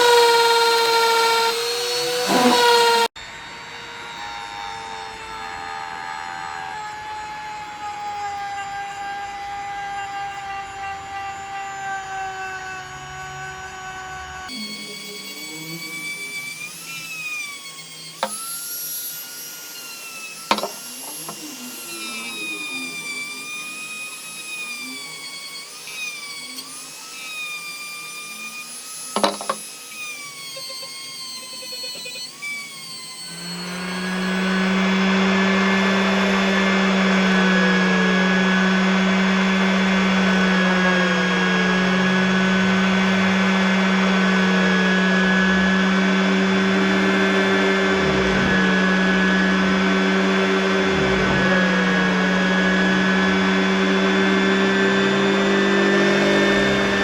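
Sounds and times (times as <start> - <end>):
motor with deep steady hum: 0.0 - 57.0
power tool motor whine: 0.0 - 57.0.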